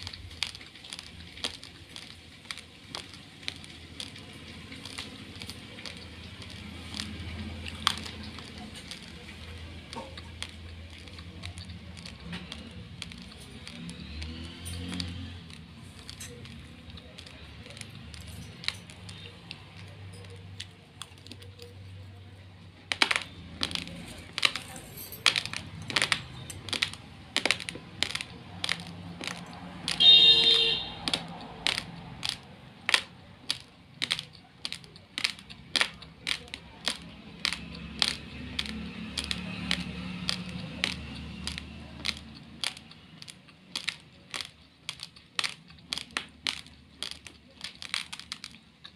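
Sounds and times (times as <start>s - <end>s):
rice grains crunching when chewed: 0.0s - 48.9s.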